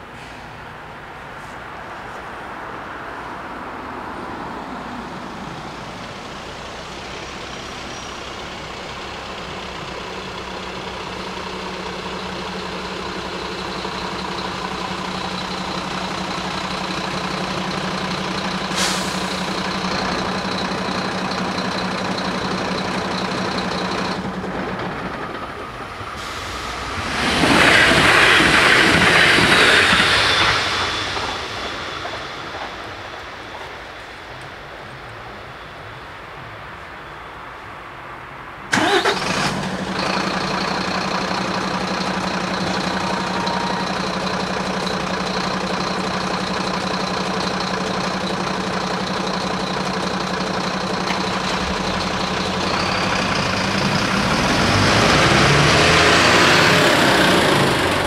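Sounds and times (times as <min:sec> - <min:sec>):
train wheels rushing on rail: 0:03.6 - 0:37.0, 0:38.7 - 0:58.0
electric train humming: 0:05.4 - 0:36.4, 0:38.7 - 0:58.0.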